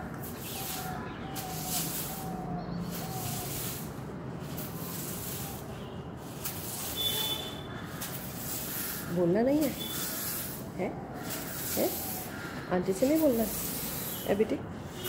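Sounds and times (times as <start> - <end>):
broom sweeping paved floor: 0.0 - 15.0.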